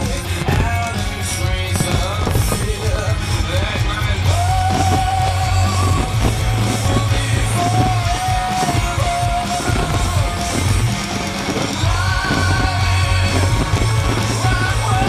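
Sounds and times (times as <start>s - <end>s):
rock song with singing: 0.0s - 15.0s.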